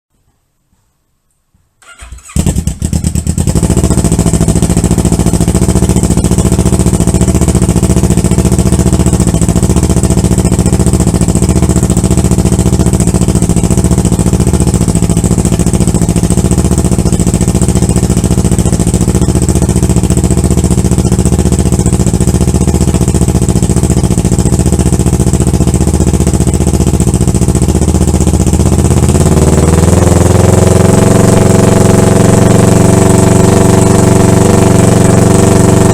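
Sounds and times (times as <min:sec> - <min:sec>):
motorcycle engine starting and idling: 0:01.8 - 0:35.9.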